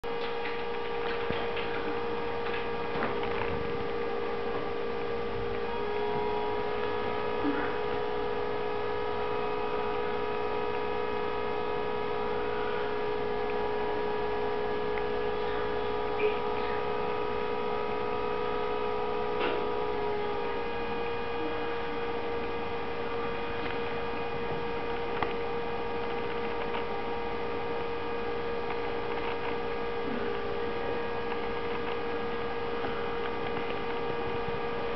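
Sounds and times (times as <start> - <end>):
electrical hum with whine: 0.0 - 34.9.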